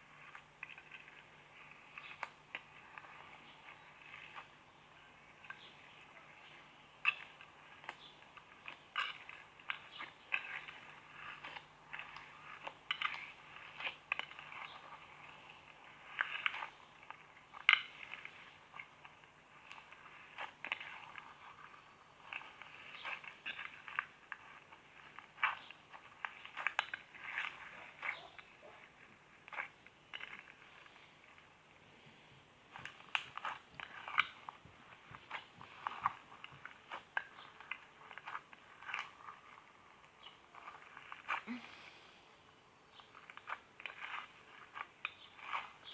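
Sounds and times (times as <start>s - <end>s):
slime clicking and crackling: 0.0s - 41.8s, 42.8s - 45.9s.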